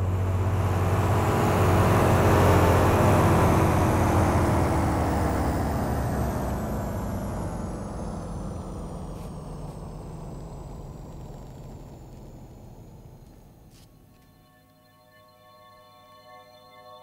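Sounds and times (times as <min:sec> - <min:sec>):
low steady drone: 0:00.0 - 0:14.5.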